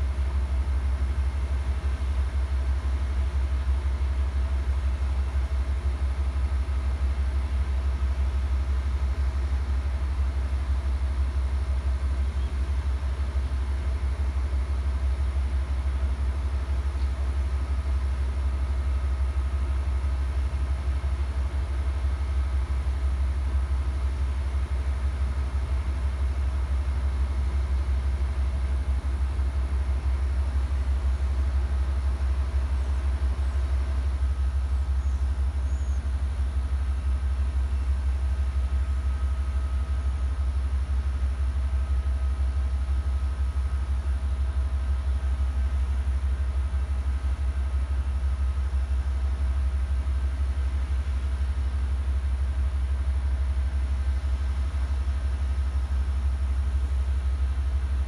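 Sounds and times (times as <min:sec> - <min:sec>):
diesel locomotive idling: 0:00.0 - 0:58.0.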